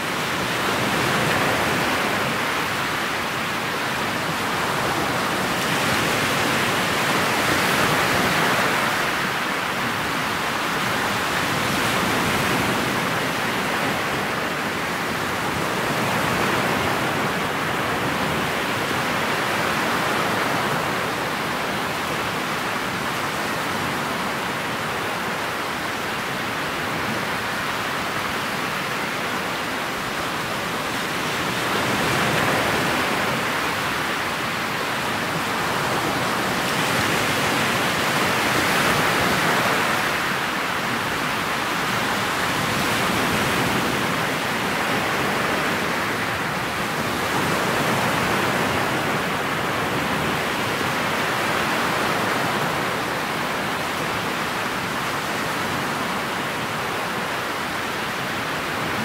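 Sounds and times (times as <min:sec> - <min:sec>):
water rushing around boat bow: 0:00.0 - 0:59.0.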